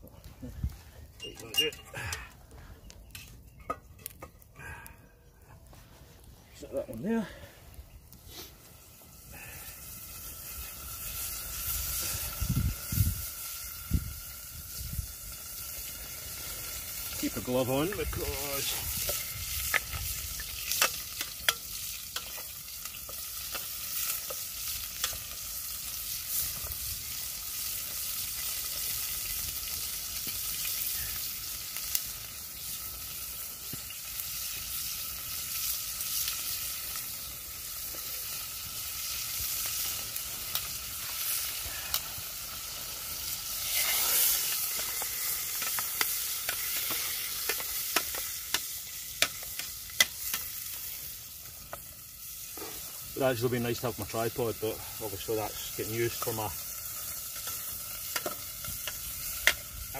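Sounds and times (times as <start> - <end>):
campfire crackling: 0.0 - 59.9
meat sizzling in a pot: 6.5 - 59.9.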